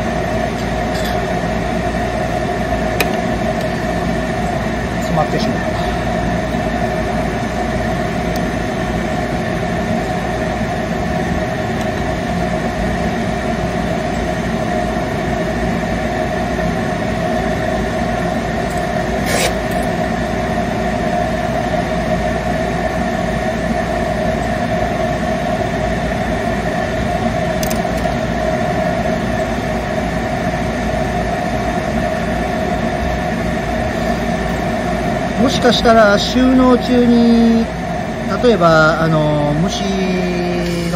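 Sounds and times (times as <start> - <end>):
motor humming: 0.0 - 35.8, 39.8 - 40.9.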